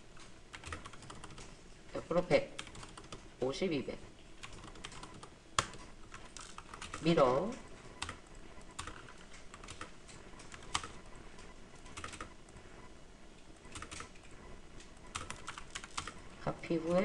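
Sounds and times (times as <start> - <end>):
computer keyboard typing: 0.2 - 3.5, 4.1 - 12.7, 13.6 - 17.0.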